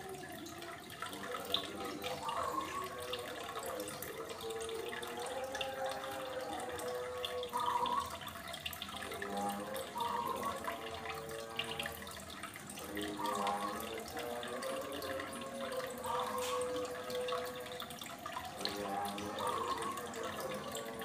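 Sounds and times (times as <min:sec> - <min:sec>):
aquarium water splashing: 0:00.0 - 0:21.0.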